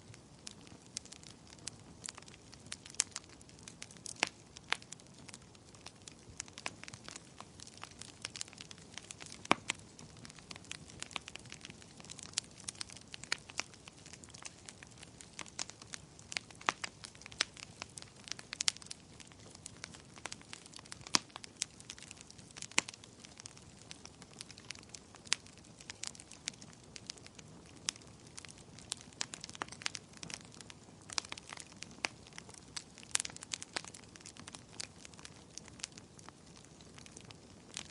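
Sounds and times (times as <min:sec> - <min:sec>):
faint steady hiss: 0:00.0 - 0:37.9
wood fire crackling: 0:00.0 - 0:37.9.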